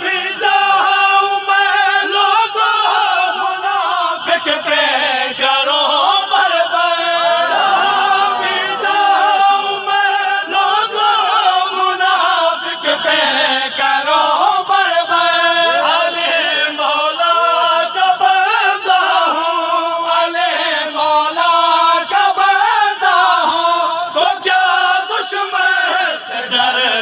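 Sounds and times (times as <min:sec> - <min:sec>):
lead reciter chanting: 0:00.0 - 0:27.0
men chanting in unison: 0:00.0 - 0:27.0.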